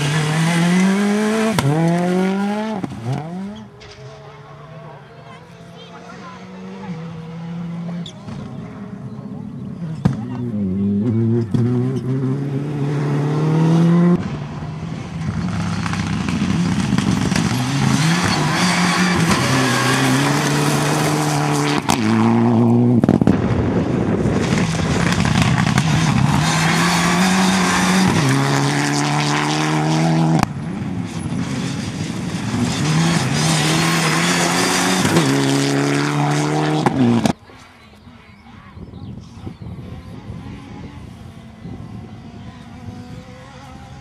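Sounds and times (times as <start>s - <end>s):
rally car engines revving: 0.0s - 44.0s.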